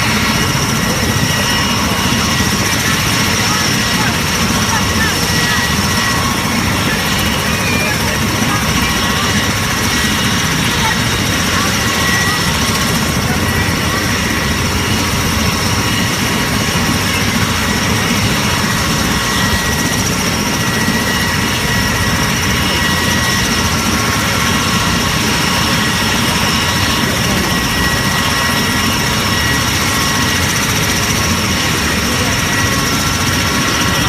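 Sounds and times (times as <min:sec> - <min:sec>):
aeroplane engine drone: 0:00.0 - 0:34.0
constant high whine: 0:00.0 - 0:34.0.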